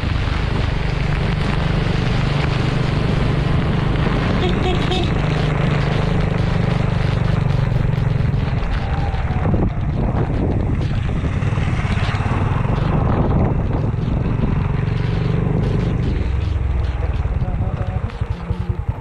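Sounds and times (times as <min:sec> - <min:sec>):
motorcycle engine running: 0:00.0 - 0:19.0
wind: 0:00.0 - 0:19.0.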